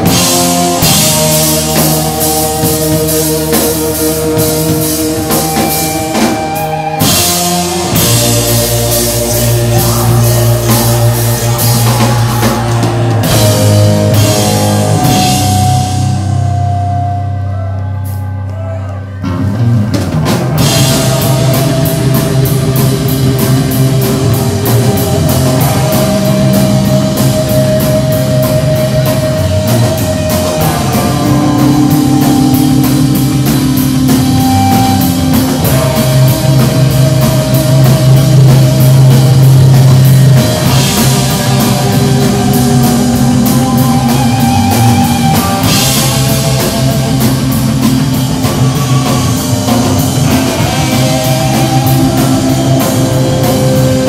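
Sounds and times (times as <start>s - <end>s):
drum kit beat with cymbals: 0.0s - 18.3s, 19.3s - 54.0s
electric guitars holding notes: 0.0s - 54.0s
rock band playing live: 0.0s - 54.0s.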